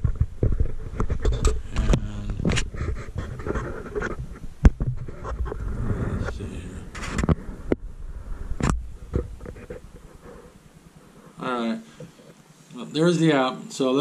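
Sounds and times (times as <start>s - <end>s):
microphone handling noise: 0.0s - 12.4s.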